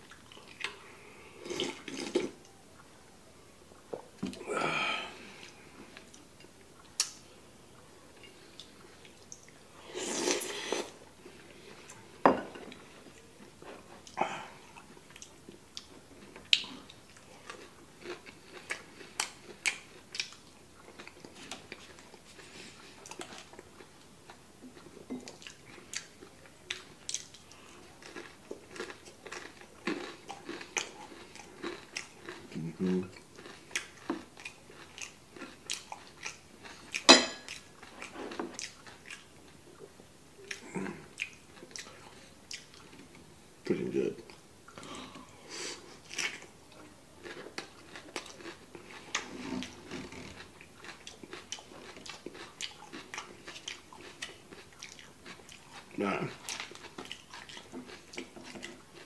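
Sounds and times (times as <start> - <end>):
chewing and crunching food: 0.0 - 2.9, 5.2 - 45.3, 45.9 - 59.0.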